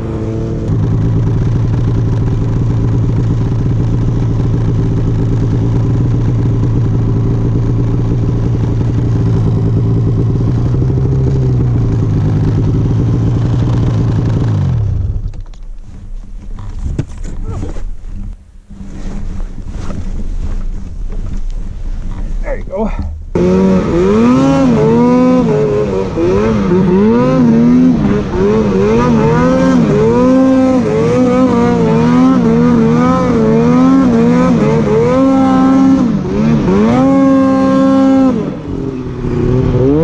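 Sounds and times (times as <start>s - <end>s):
snowmobile engine running: 0.0s - 40.0s.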